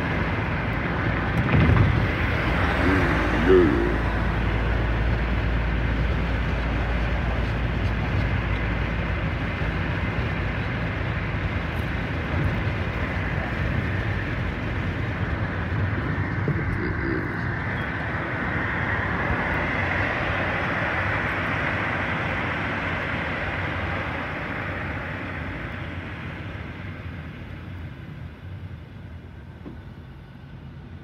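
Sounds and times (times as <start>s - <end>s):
car road noise from inside: 0.0s - 31.0s.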